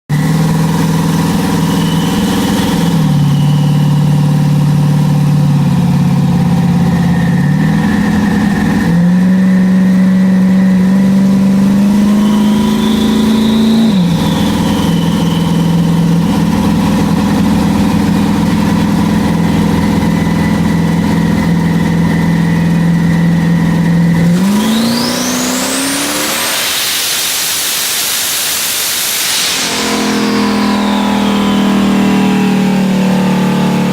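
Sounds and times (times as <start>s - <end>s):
turbo whistle: 0.1s - 5.3s, 6.4s - 33.9s
car engine running on a dyno: 0.1s - 33.9s.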